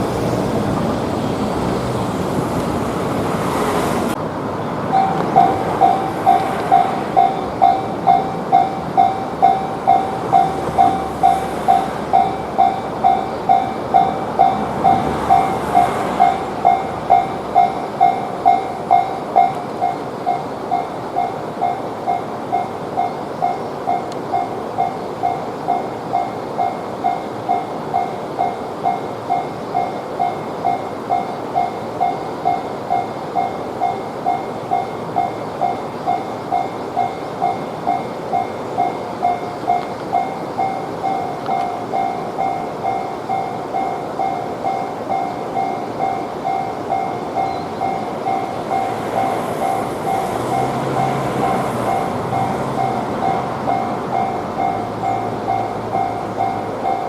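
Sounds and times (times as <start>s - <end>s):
approaching train: 0.0s - 57.0s
railroad crossing alarm ringing: 0.0s - 57.0s.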